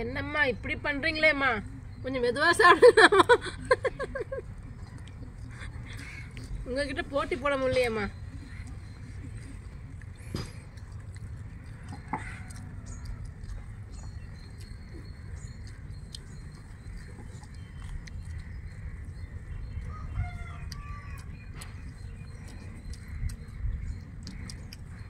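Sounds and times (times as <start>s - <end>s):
eating clicks: 3.1s - 25.0s.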